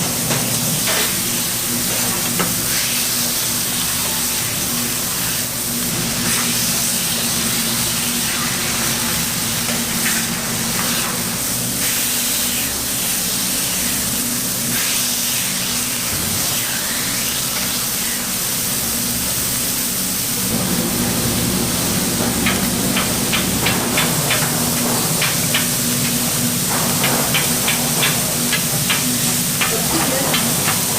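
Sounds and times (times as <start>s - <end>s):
meat sizzling on a grill: 0.0s - 30.9s.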